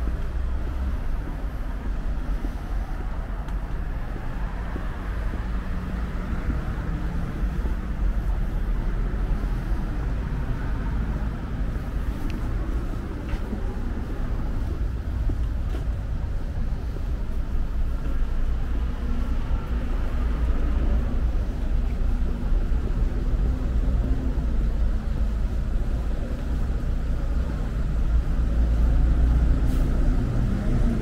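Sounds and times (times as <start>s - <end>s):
city street traffic rumble: 0.0s - 31.0s.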